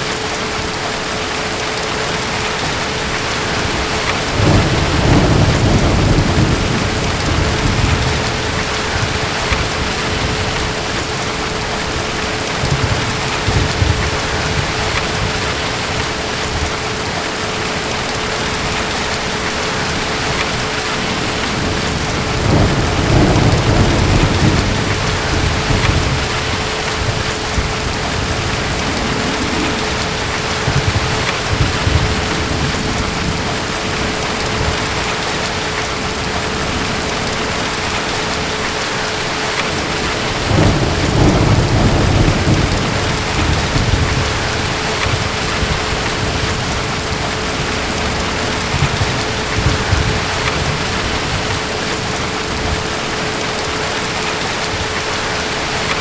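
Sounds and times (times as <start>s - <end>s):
distant thunder rumbling: 0.0s - 56.0s
steady rain: 0.0s - 56.0s.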